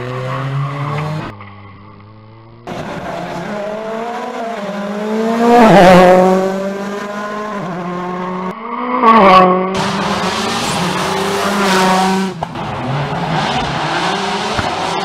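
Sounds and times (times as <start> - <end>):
rally car engine passing by: 0.0 - 15.0
second rally car engine: 0.0 - 15.0.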